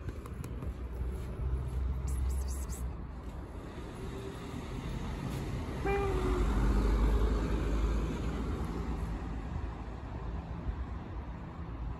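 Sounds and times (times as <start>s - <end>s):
vehicle passing: 0.7s - 11.3s.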